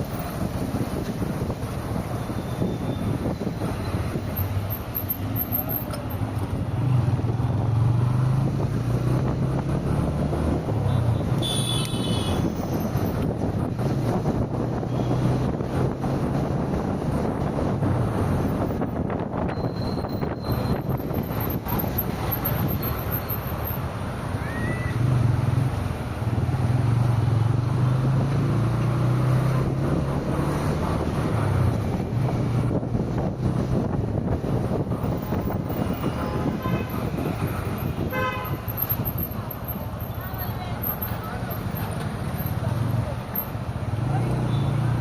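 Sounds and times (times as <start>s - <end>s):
road noise: 0.0s - 45.0s.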